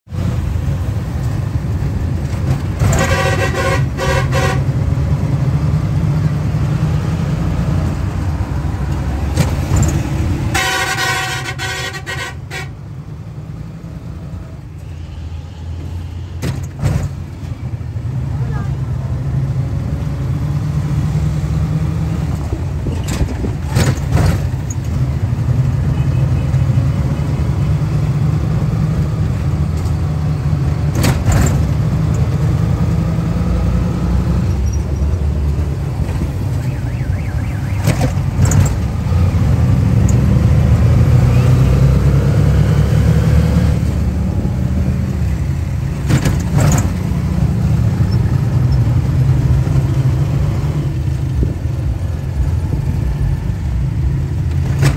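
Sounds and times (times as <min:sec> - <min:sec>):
road and engine rumble: 0:00.0 - 0:54.9.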